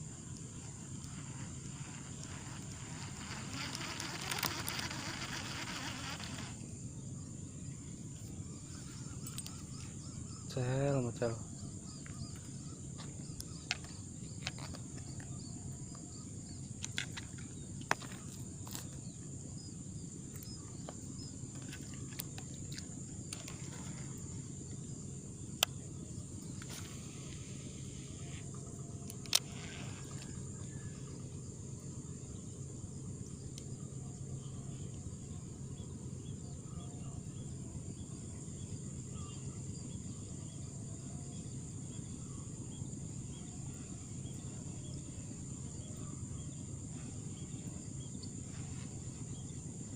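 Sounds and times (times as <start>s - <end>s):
high-pitched insect drone: 0.0s - 49.9s
low background hum: 0.0s - 49.9s.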